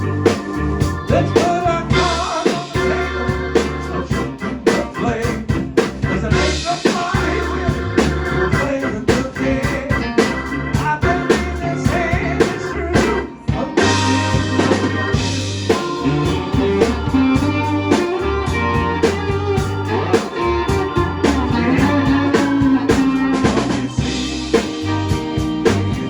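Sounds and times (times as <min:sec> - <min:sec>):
bass: 0:00.0 - 0:26.0
drum kit: 0:00.0 - 0:26.0
electric guitar: 0:00.0 - 0:26.0
organ: 0:00.0 - 0:26.0
person singing: 0:01.1 - 0:25.0.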